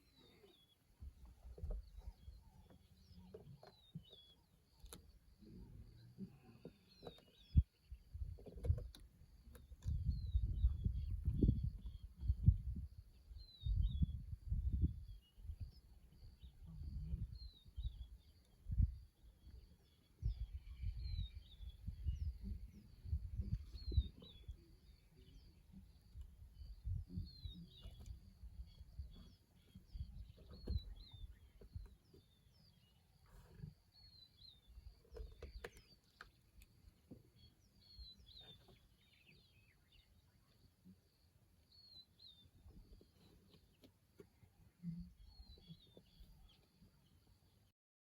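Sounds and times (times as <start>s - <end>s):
bird chirping faintly: 0.0s - 47.7s.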